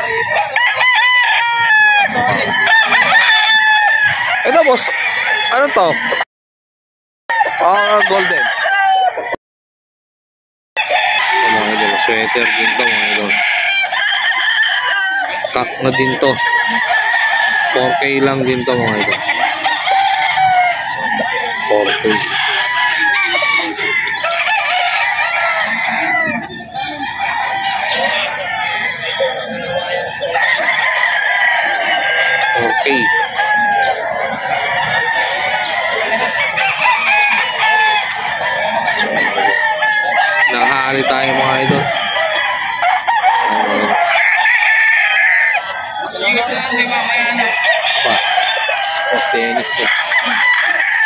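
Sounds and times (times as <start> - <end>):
busy background din: 0.0 - 6.2, 10.8 - 51.0
chickens clucking: 0.0 - 6.3, 7.3 - 9.4, 10.8 - 51.0
roosters crowing: 0.0 - 6.3, 7.3 - 9.4, 10.8 - 51.0.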